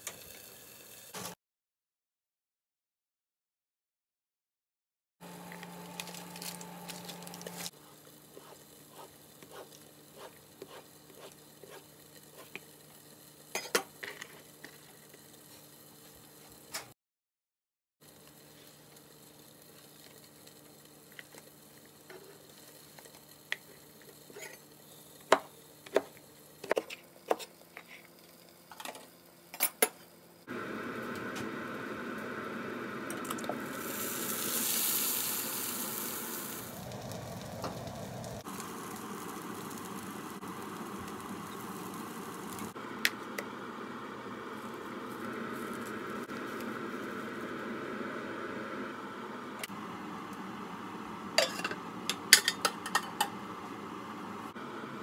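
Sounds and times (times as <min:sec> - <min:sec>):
chicken sizzling in frying pan: 0:00.0 - 0:01.4, 0:05.8 - 0:16.7, 0:18.0 - 0:29.4, 0:30.5 - 0:54.3.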